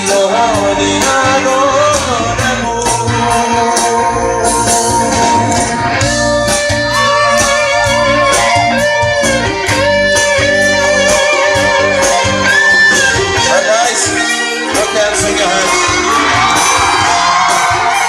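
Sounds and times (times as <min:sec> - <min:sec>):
lead guitar melody: 0:00.0 - 0:18.0
steady drum beat: 0:00.0 - 0:18.0.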